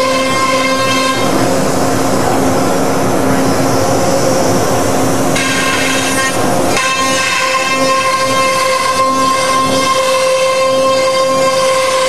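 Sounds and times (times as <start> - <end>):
rushing mechanical noise: 0.0 - 12.0.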